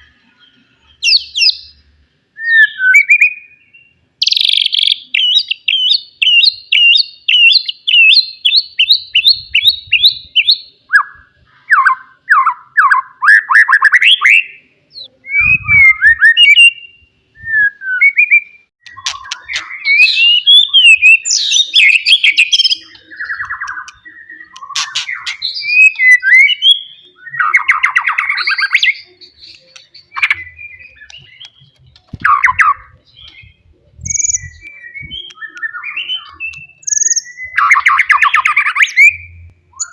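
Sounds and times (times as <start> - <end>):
bird singing whistles and trills: 0.0 - 1.8, 2.4 - 39.9.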